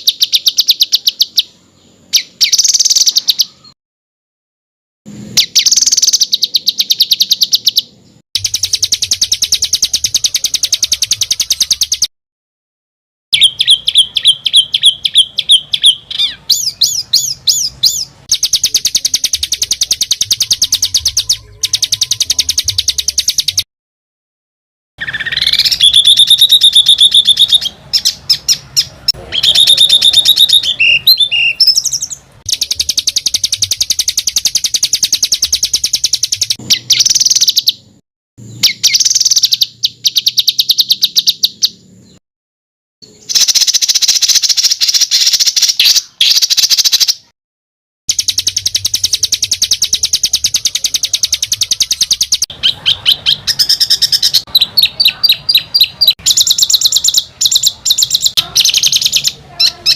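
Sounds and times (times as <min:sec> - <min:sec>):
songbird rattling trills and chirps: 0:00.0 - 0:03.7, 0:05.4 - 0:12.1, 0:13.4 - 0:23.6, 0:25.0 - 0:37.8, 0:38.4 - 0:42.0, 0:43.2 - 0:47.3, 0:48.1 - 0:59.9.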